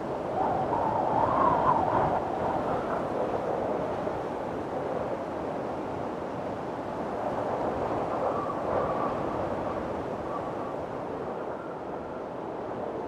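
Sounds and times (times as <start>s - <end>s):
faint wind whistling: 0.0s - 13.0s.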